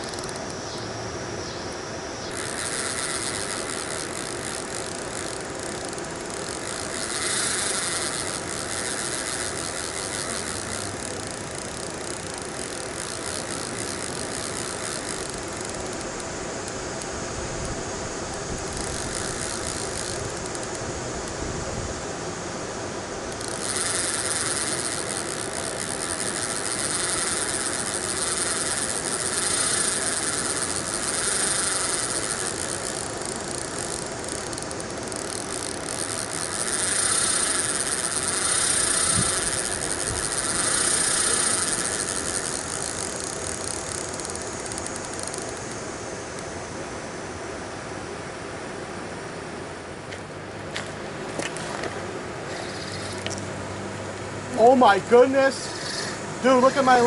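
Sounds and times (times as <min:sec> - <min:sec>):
steady high river hiss: 0:00.0 - 0:57.0.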